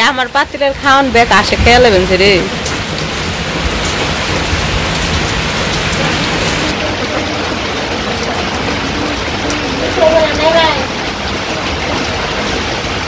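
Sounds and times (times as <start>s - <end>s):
heavy rain on wet ground: 0.0s - 13.0s.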